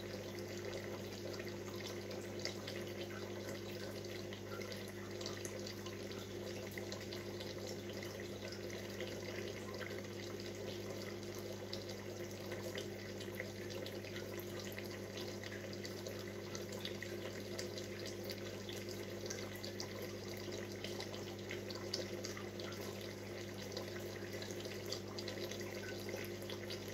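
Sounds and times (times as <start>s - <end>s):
aquarium filter bubbling: 0.0s - 26.9s.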